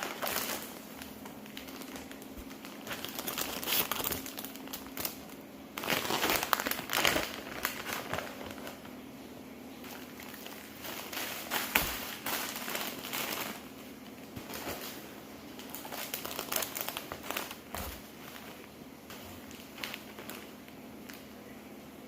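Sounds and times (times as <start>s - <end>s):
crinkling and rustling: 0.0s - 21.5s.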